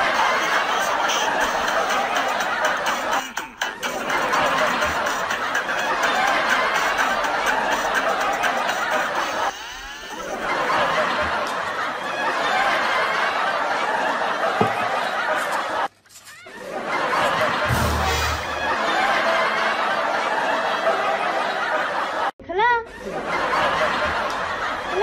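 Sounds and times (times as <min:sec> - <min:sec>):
crowd laughing: 0:00.0 - 0:25.0.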